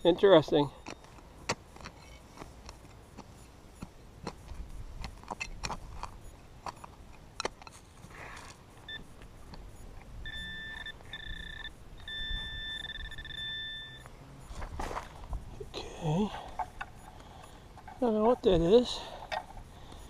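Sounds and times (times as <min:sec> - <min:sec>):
metal detector beeping: 0:00.0 - 0:20.0.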